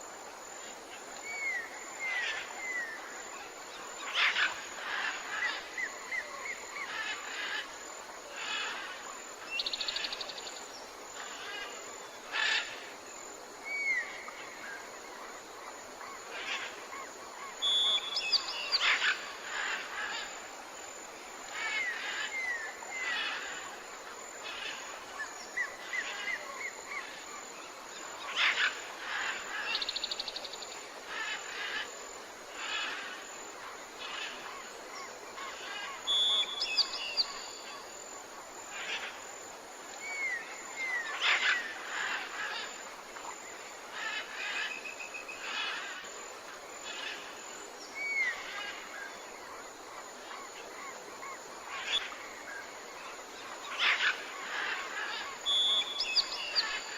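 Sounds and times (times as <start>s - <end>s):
steady hiss: 0.0s - 56.9s.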